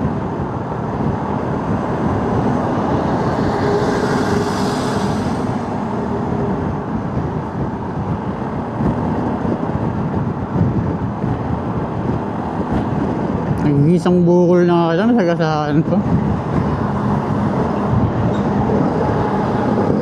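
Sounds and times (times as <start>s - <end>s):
wind noise: 0.0s - 20.0s.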